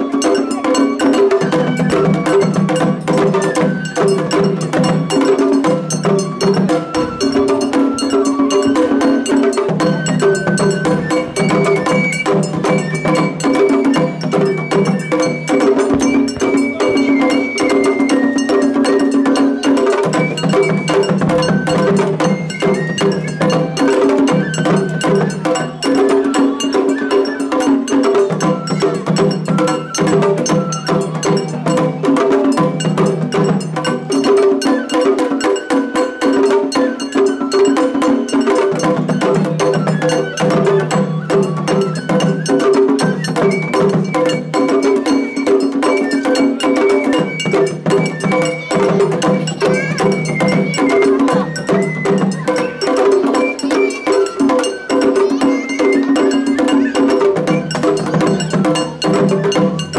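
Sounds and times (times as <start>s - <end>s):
high held melody: 0.0s - 59.9s
drum strikes: 0.1s - 59.9s.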